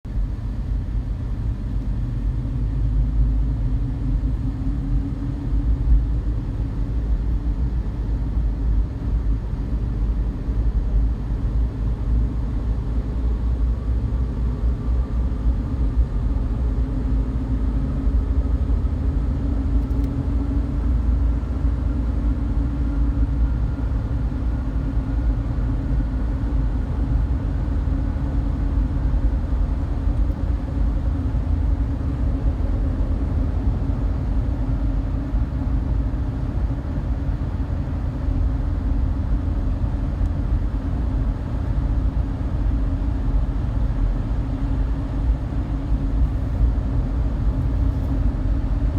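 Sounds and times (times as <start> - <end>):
vehicle road noise rumble: 0.1 - 48.9.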